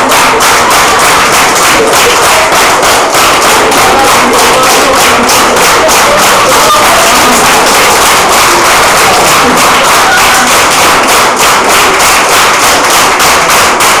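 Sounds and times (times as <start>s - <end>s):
crowd clapping in rhythm: 0.0s - 14.0s.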